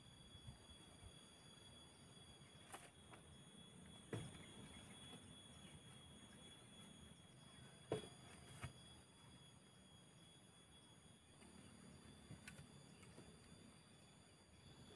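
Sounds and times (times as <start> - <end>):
faint steady high tones: 0.0 - 14.9.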